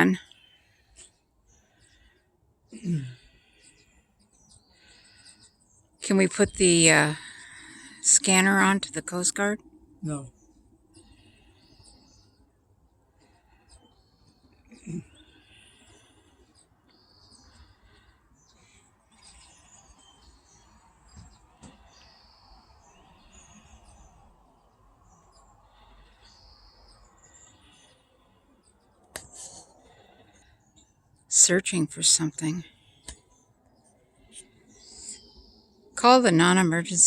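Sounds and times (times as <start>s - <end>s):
faint birds chirping: 0.0s - 37.0s.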